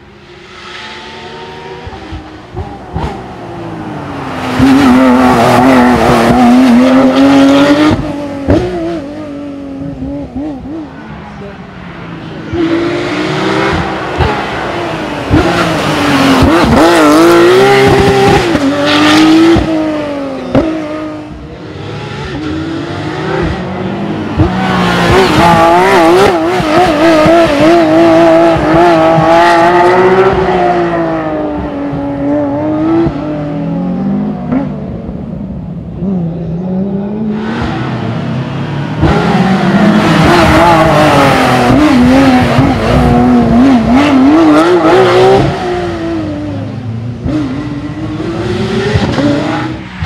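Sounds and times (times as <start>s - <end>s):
racing engine revving: 0.0s - 50.0s.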